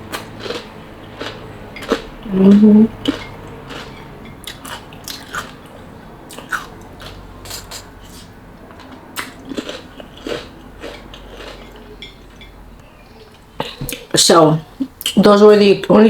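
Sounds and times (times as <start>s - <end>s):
person chewing crunchy pickle: 0.0s - 14.1s.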